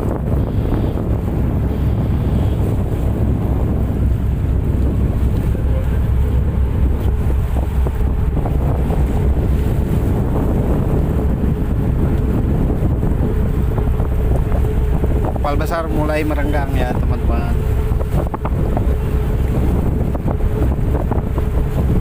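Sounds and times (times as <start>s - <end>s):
boat engines rumbling: 0.0s - 22.0s
wind buffeting microphone: 0.0s - 22.0s.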